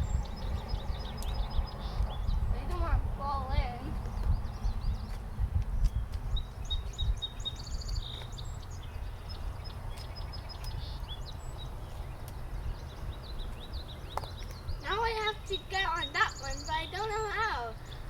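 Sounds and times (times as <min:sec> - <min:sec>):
steady low rumble: 0:00.0 - 0:16.9
birds chirping and trilling: 0:00.0 - 0:18.0.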